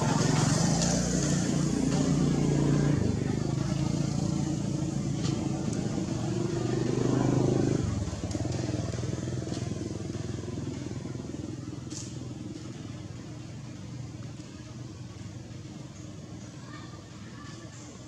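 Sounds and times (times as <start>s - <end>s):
vehicle engine humming: 0.0s - 17.2s.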